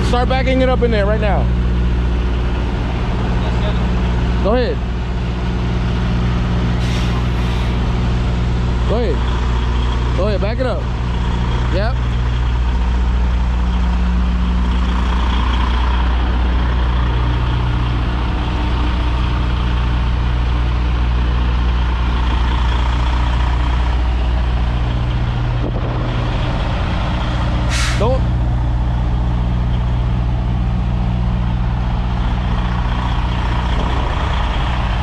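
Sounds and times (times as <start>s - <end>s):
truck diesel engine idling: 0.0s - 35.0s.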